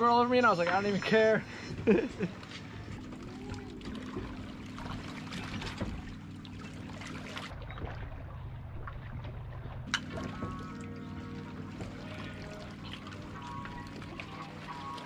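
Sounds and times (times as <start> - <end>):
low hum: 0.0 - 15.0
water lapping against rocks: 0.7 - 15.0.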